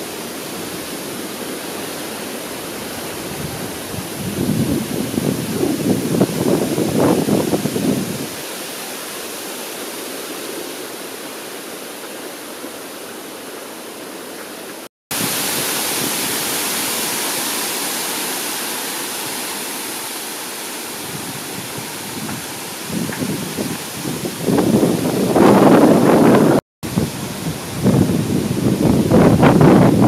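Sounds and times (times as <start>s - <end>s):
forest fire rushing hiss: 0.0s - 30.0s.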